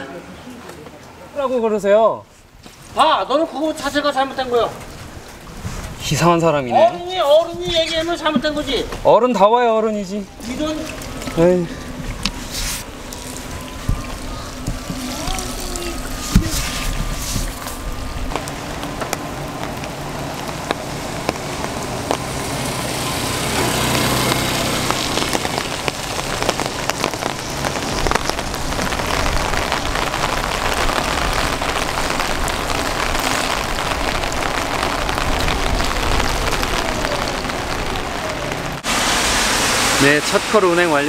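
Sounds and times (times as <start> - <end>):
heavy rain on pavement: 0.0 - 41.0
raindrops ticking close by: 2.7 - 41.0.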